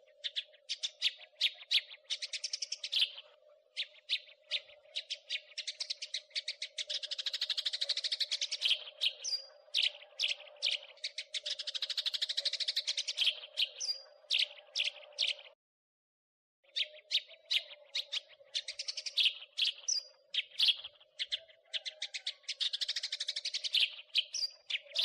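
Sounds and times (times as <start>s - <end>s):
sparrow chirping: 0.0s - 15.6s, 16.7s - 25.0s.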